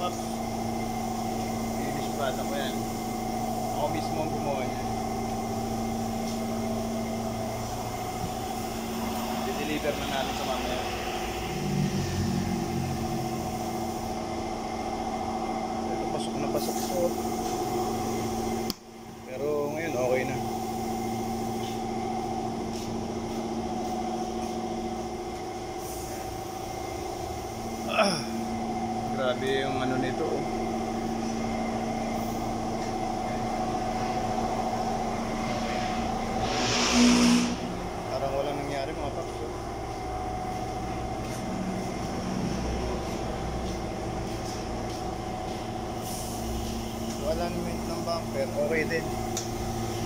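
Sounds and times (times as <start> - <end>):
machine droning hum: 0.0 - 50.0.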